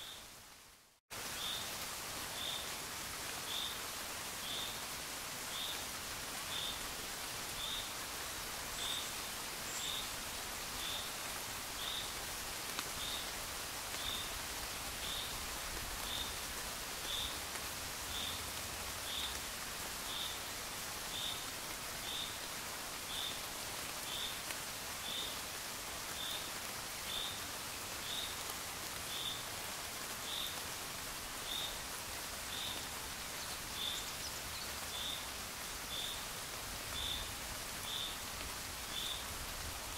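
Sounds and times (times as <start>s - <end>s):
gentle rain: 0.0s - 39.9s.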